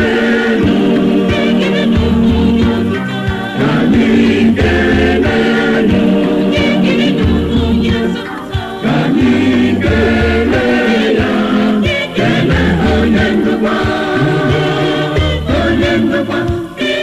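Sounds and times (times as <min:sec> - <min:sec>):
bass line: 0:00.0 - 0:16.7
choir singing a hymn: 0:00.0 - 0:17.0
steady beat: 0:00.0 - 0:17.0.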